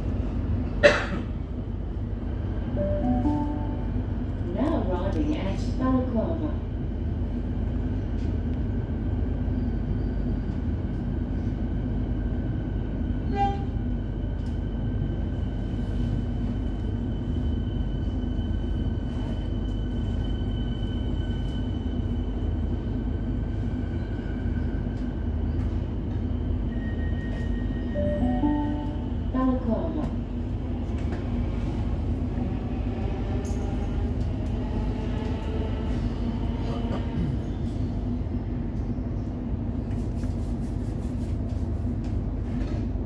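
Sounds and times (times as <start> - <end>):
train wheels rumbling on track: 0.0 - 28.1, 28.7 - 43.0.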